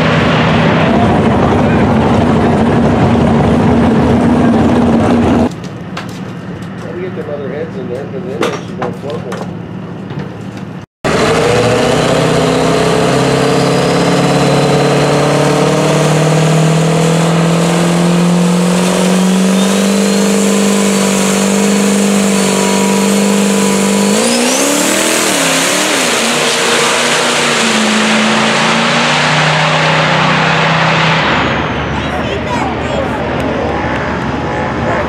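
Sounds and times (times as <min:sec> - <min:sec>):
diesel truck engine at full throttle: 0:00.0 - 0:35.0.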